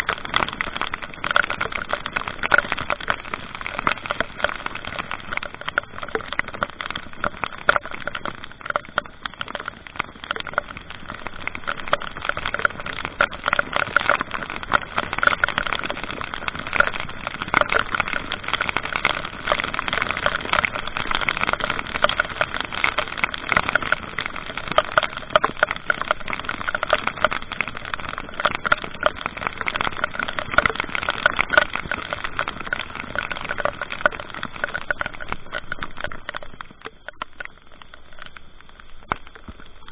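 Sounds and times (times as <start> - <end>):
raindrops hitting: 0.0 - 39.9.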